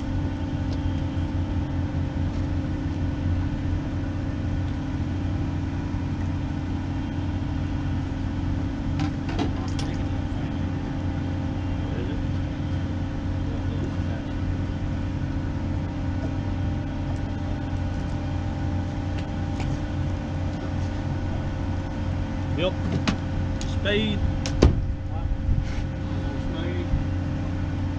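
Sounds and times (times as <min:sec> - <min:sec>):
heavy machinery drone: 0:00.0 - 0:27.9.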